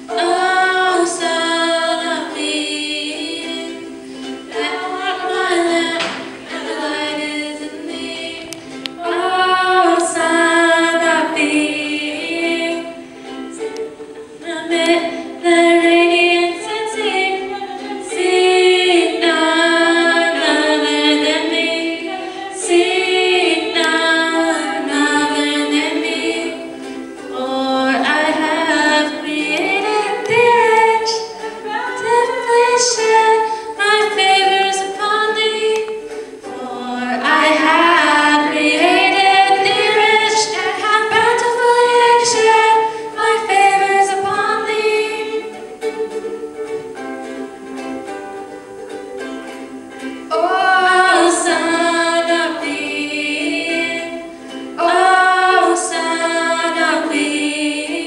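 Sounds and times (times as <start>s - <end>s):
strummed ukulele: 0.0s - 58.0s
women singing together: 0.0s - 58.0s.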